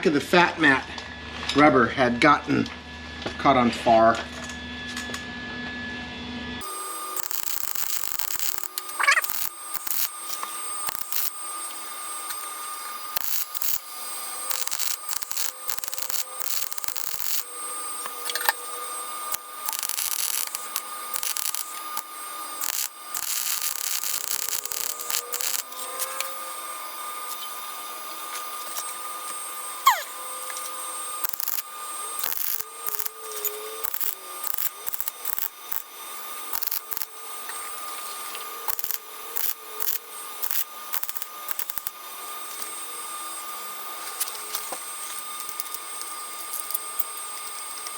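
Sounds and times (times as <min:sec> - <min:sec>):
faint whine: 0:06.5 - 0:47.9.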